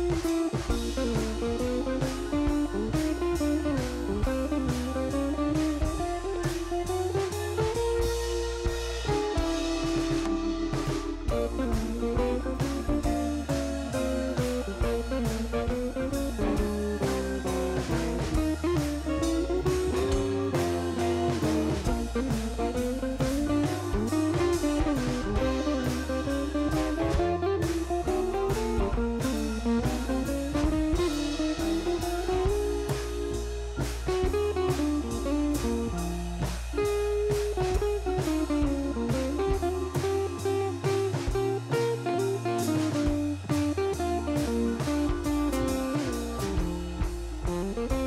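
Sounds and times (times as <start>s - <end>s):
background music with bass and drums: 0.0s - 48.0s.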